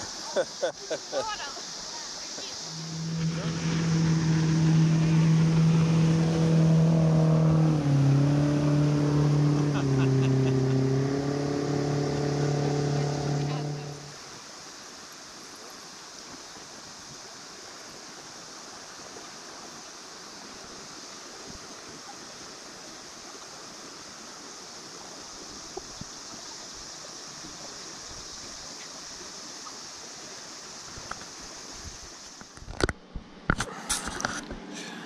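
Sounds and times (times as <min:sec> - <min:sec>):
shallow river flowing: 0:00.0 - 0:35.0.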